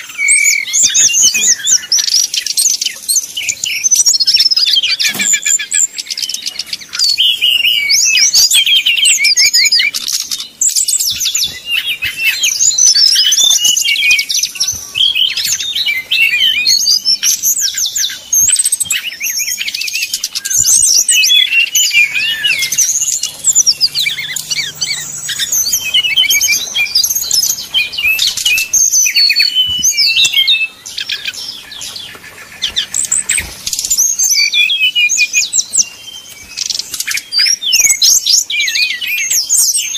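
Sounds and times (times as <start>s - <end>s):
bird singing rapid trills: 0.0s - 39.9s.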